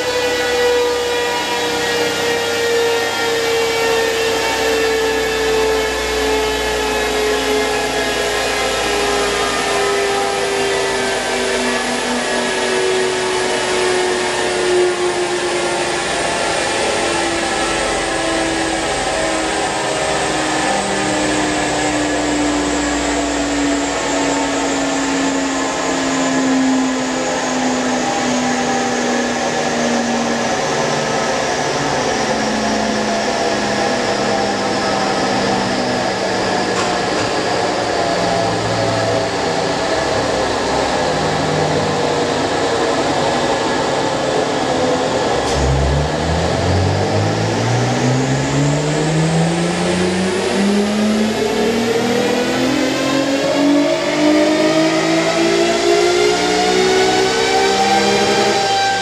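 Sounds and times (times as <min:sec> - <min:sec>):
car engine slowing: 0:00.6 - 0:59.0.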